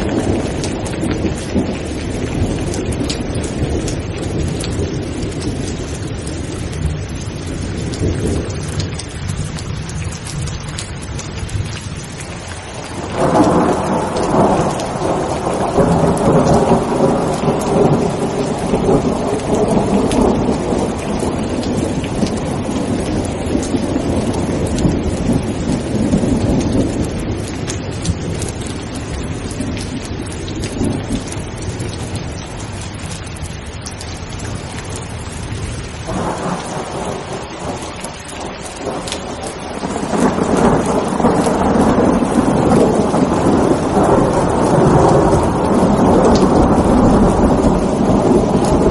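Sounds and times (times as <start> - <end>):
rolling thunder: 0.0 - 32.9, 33.8 - 48.9
heavy rain: 0.0 - 48.9.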